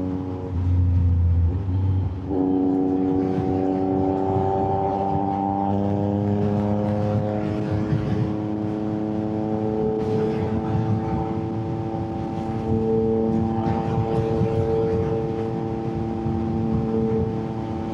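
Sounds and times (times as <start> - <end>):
wind rush: 0.0 - 17.9.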